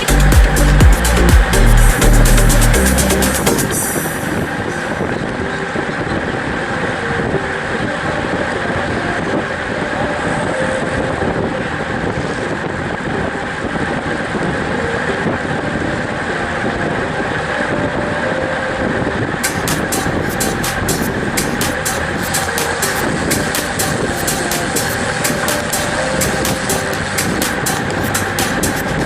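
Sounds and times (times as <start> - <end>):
road noise: 0.0 - 29.0
wind buffeting microphone: 0.0 - 29.0.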